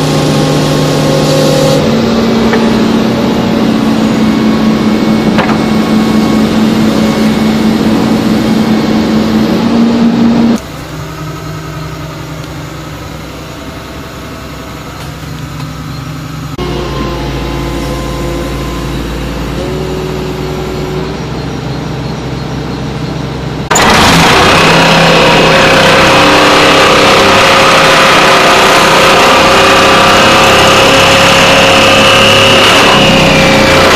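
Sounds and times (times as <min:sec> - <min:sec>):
pile driver droning: 0:00.0 - 0:33.9.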